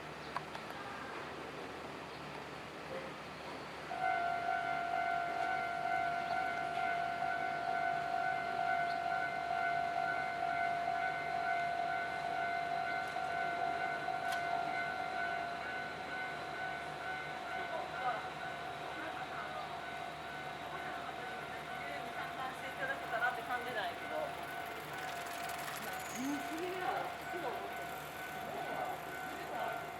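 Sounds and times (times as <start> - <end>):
level crossing warning bell: 3.9 - 29.9.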